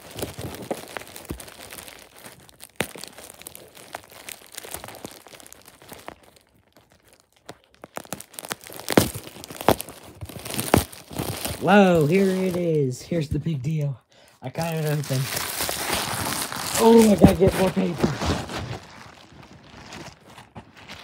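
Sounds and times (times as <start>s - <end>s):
packing paper rustling and crackling: 0.0s - 13.3s, 14.5s - 21.0s.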